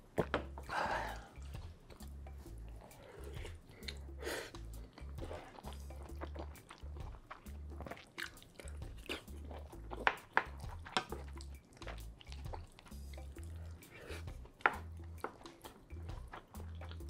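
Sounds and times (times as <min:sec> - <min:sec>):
quiet background music: 0:00.0 - 0:17.0
chewing and mouth sounds: 0:00.2 - 0:17.0.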